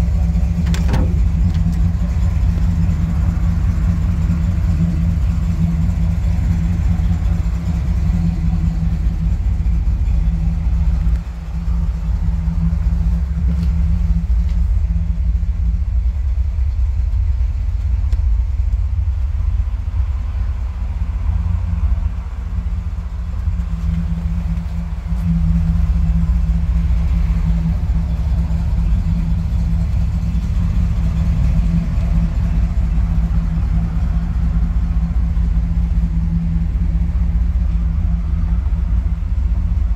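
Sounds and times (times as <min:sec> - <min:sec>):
pickup engine idling: 0:00.0 - 0:39.9.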